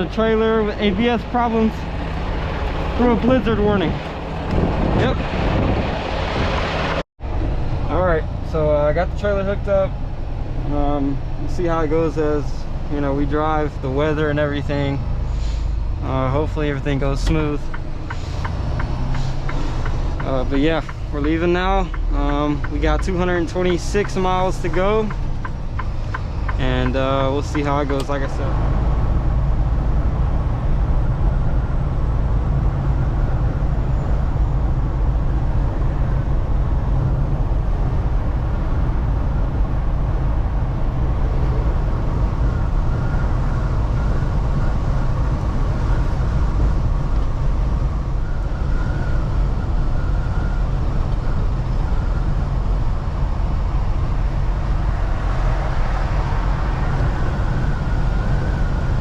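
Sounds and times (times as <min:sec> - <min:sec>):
diesel engine rumble: 0:00.0 - 0:59.0
road noise: 0:00.0 - 0:59.0.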